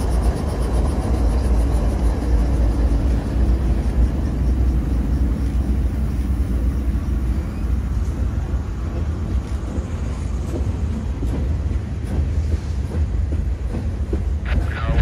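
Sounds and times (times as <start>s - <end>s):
diesel locomotive engine: 0.0s - 15.0s
steel wheels rumbling on rail: 0.0s - 15.0s.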